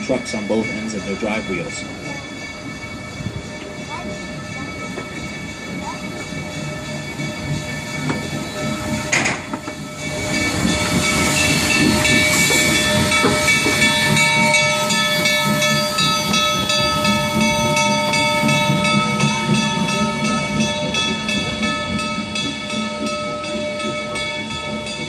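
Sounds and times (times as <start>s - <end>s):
high ringing tones: 0.0s - 25.0s
steam train rumble and hiss: 0.0s - 25.0s.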